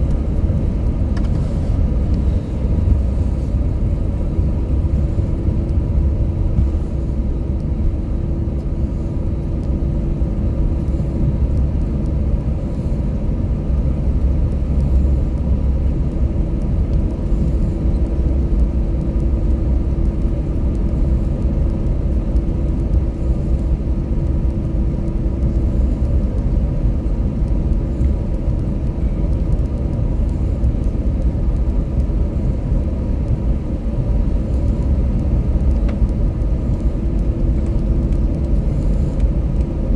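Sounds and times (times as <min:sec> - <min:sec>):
airliner cabin engine rumble: 0:00.0 - 0:39.9
faint hum: 0:00.0 - 0:39.9.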